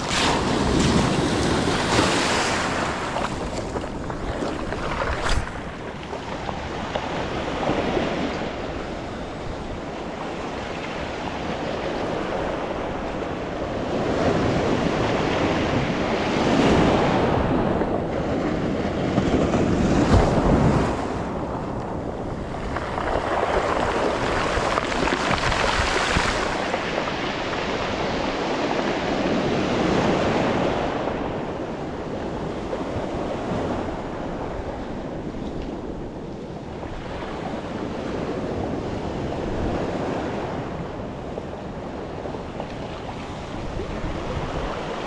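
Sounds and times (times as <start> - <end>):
ocean surf breaking: 0.0 - 45.0.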